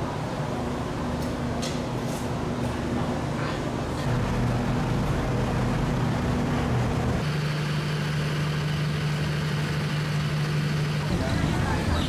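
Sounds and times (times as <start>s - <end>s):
idling train machine hum: 0.0s - 12.0s.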